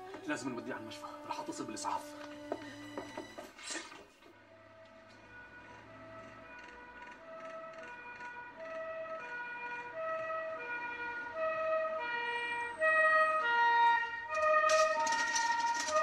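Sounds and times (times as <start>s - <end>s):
two-tone ambulance siren: 0.0s - 3.5s, 4.4s - 16.0s.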